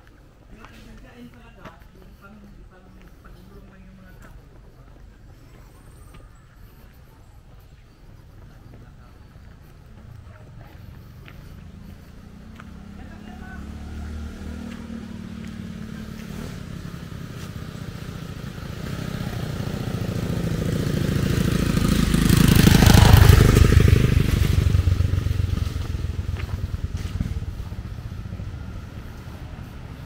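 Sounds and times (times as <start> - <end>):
motorcycle engine passing: 2.1 - 30.0.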